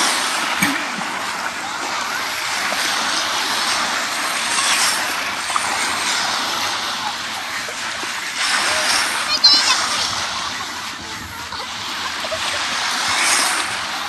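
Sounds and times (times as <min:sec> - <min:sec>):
waves washing onto beach: 0:00.0 - 0:14.0.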